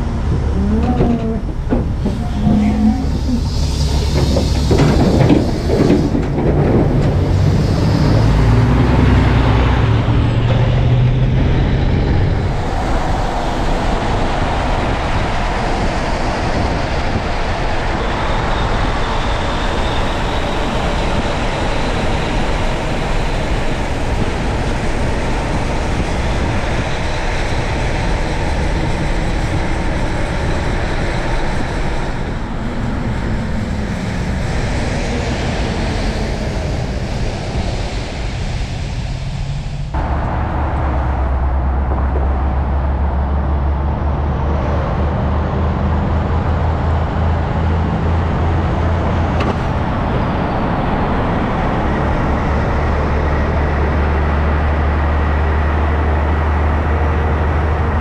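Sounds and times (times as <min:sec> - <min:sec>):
roadway traffic noise: 0:00.0 - 0:58.0
truck diesel engine passing: 0:00.0 - 0:58.0.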